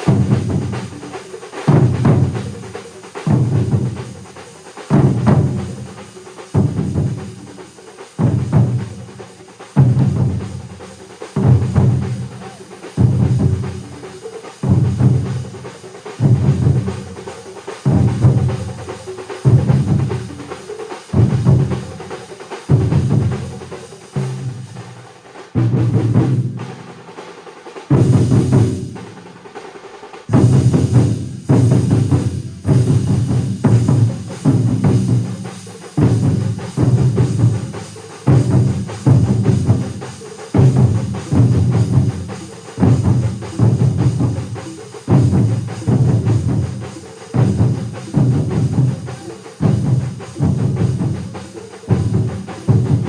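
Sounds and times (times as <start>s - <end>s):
drum ensemble playing: 0.0s - 53.0s.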